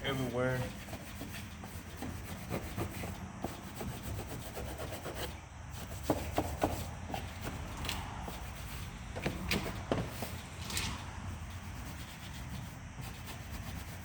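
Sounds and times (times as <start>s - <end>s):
brush scrubbing: 0.0s - 9.0s, 11.3s - 14.0s.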